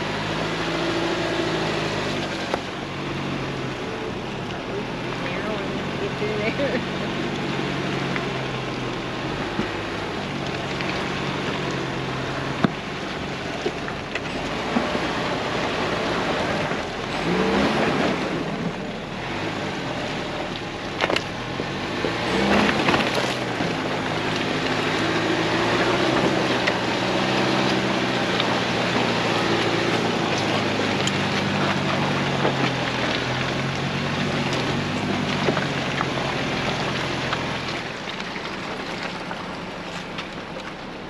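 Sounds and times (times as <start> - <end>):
engine running and revving: 0.0 - 41.0.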